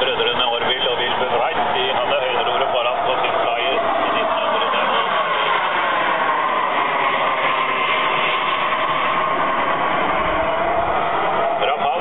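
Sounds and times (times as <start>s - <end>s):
model jet engine whine: 0.0s - 12.0s.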